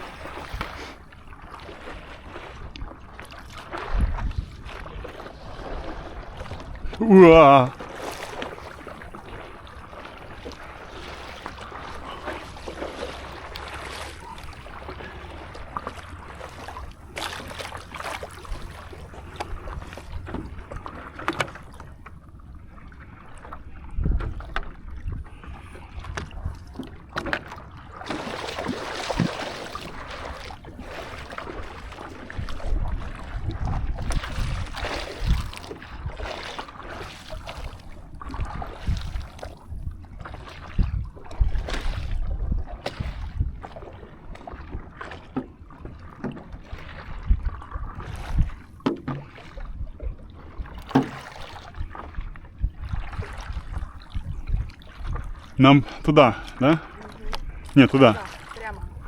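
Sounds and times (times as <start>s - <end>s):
water splashing around paddleboard: 0.0s - 59.0s
wind rumbling on microphone: 0.0s - 59.0s.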